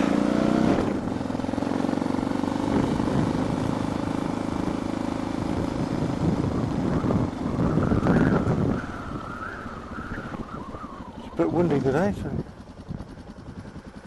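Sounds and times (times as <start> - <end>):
motorcycle engine running: 0.0 - 14.0
wind and helmet noise: 0.0 - 14.0.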